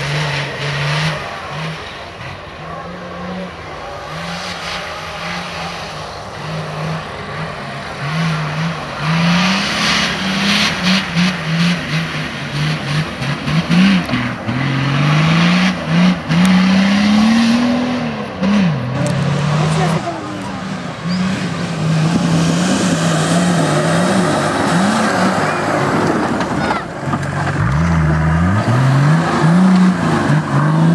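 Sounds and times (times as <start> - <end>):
engine revving hard: 0.0 - 26.9, 27.5 - 30.9.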